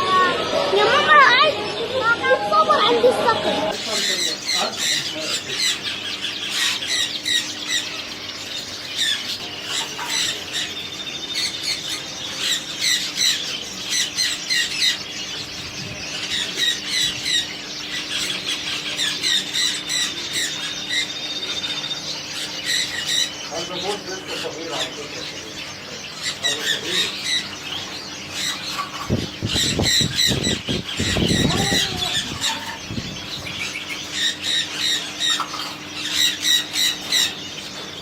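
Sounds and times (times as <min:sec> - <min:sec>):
caged birds chirping: 0:00.0 - 0:38.0.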